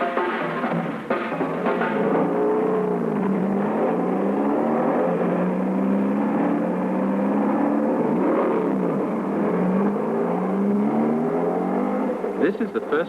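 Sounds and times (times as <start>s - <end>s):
cars passing by: 0.0s - 13.0s
racing car engines running hard: 0.0s - 13.0s.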